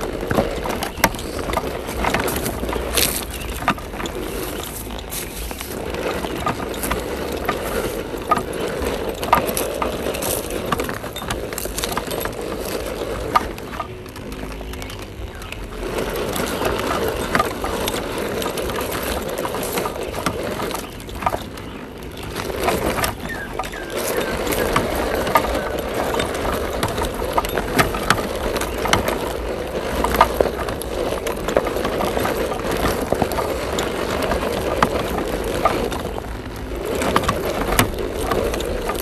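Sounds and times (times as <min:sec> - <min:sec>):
electric motor and gearbox whirring: 0:00.0 - 0:39.0
tyres crunching dirt clods: 0:00.0 - 0:39.0.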